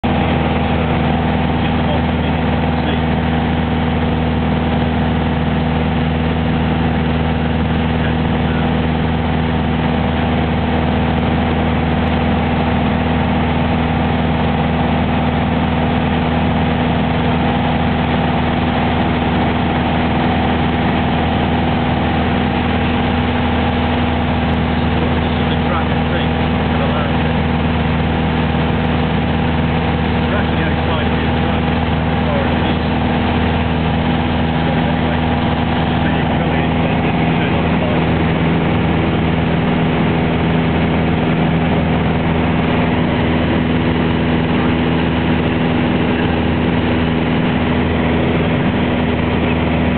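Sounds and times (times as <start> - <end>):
propeller aircraft engine droning: 0.0 - 49.9.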